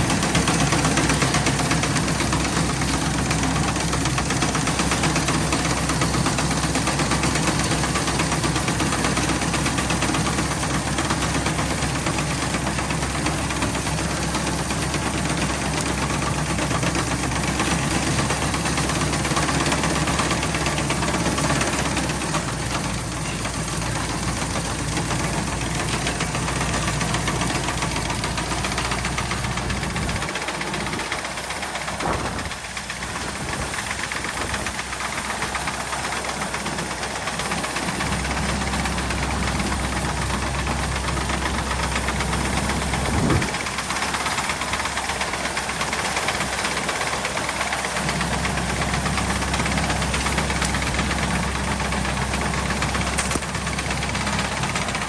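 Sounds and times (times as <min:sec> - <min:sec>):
tractor diesel engine knocking: 0:00.0 - 0:55.0.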